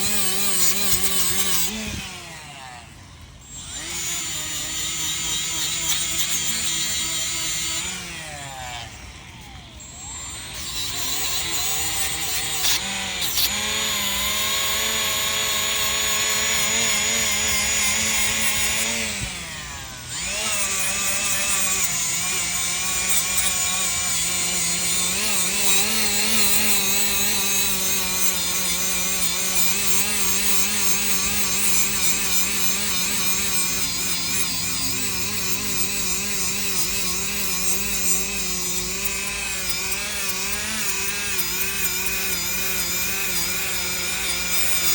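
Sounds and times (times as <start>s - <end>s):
power tool motor whining: 0.0s - 44.9s.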